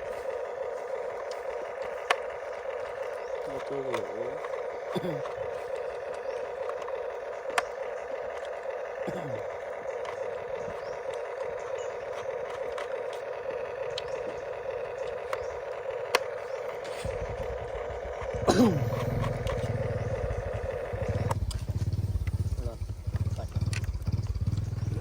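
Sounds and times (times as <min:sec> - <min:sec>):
sharp clicks: 0:00.0 - 0:25.0
small electric motor whirring: 0:00.0 - 0:25.0.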